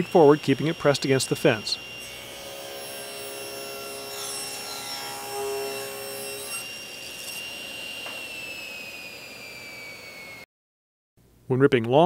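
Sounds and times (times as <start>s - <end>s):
saw cutting board: 0.0s - 10.4s
table saw blade whine: 0.0s - 10.5s.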